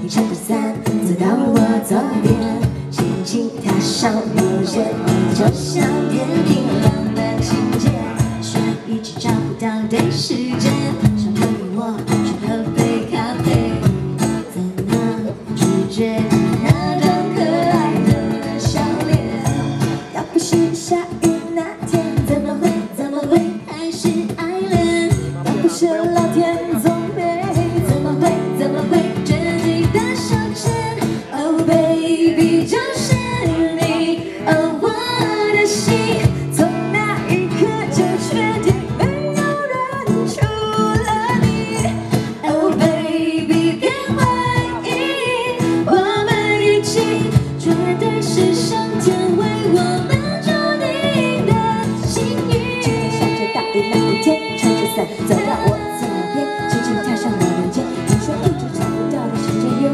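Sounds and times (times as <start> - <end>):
instrumental accompaniment: 0.0 - 59.9
women singing pop song: 0.0 - 59.9.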